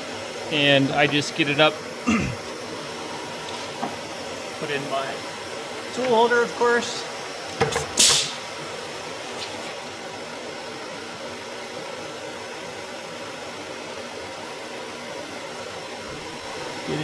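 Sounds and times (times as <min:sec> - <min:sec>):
air noise hiss: 0:00.0 - 0:17.0.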